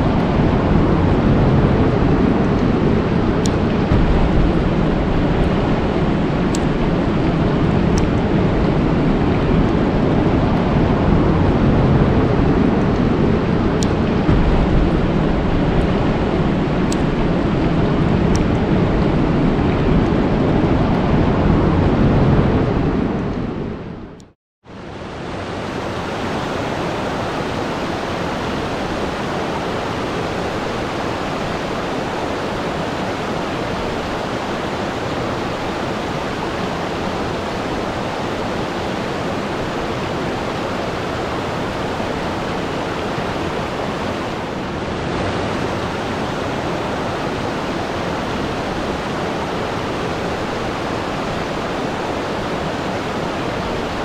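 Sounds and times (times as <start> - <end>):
rushing water roar: 0.0 - 23.9, 24.7 - 54.0.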